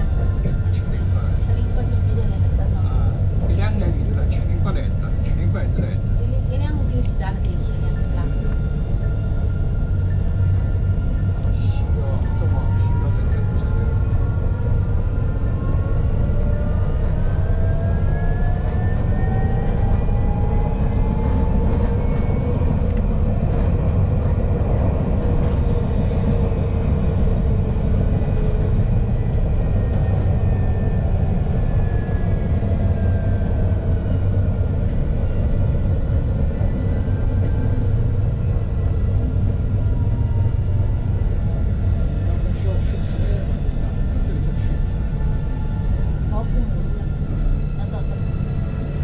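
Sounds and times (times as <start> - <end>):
tram wheels rumbling: 0.0 - 49.0.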